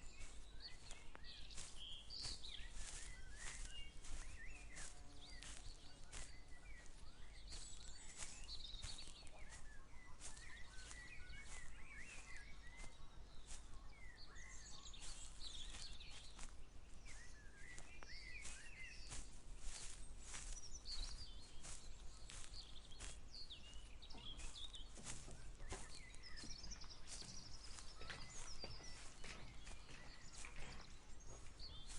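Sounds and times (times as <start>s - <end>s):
birds chirping and singing: 0.0s - 31.9s
footsteps walking: 0.0s - 31.9s.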